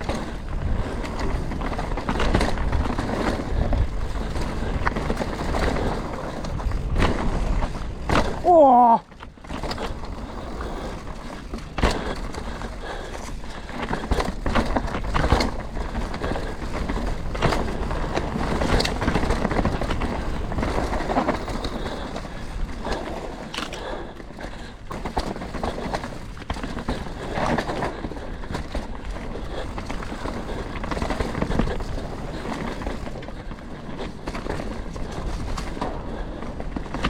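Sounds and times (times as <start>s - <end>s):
bike knocking and rattling: 0.0s - 37.0s
knobby tyres rolling on dirt: 0.0s - 37.0s.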